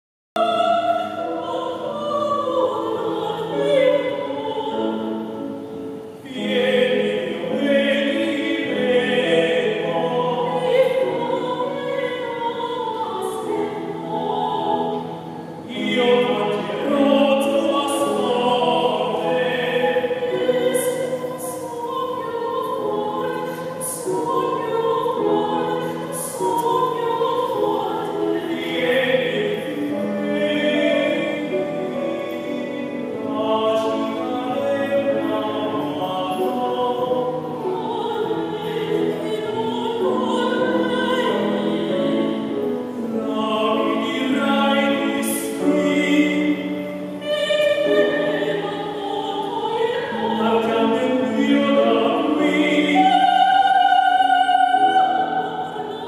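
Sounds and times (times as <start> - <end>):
grand piano accompaniment: 0.4 - 56.0
woman and man singing opera duet: 0.4 - 56.0.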